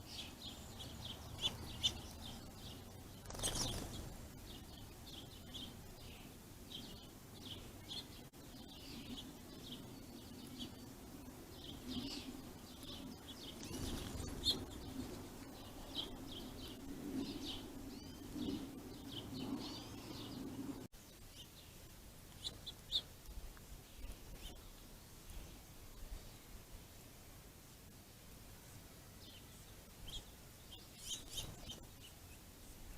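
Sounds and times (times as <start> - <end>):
low steady background hum: 0.0 - 32.9
songbirds chirping: 0.0 - 32.9.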